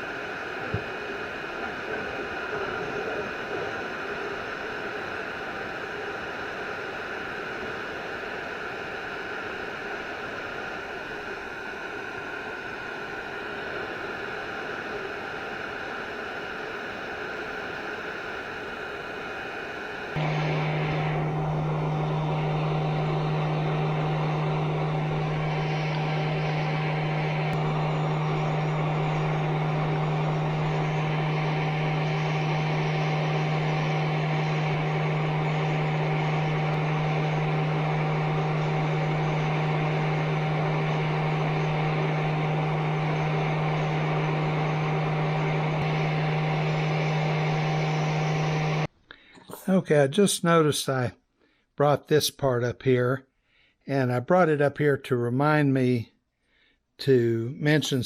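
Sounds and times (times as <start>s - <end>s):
loud hum with high whine: 0.0s - 48.9s
small electric fans running: 0.0s - 48.9s.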